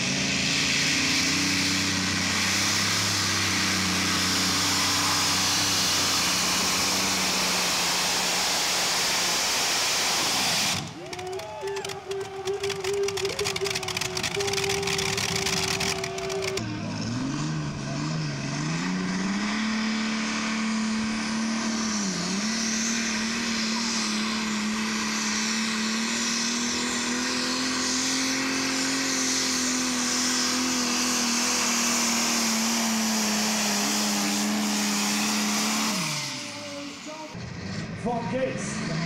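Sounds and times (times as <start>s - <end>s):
tractor diesel engine at full throttle: 0.0s - 39.0s.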